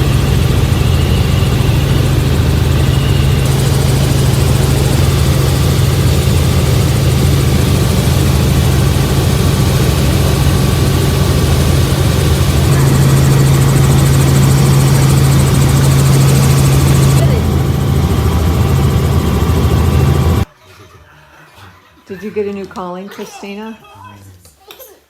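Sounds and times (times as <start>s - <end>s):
vehicle engine droning: 0.0s - 20.4s.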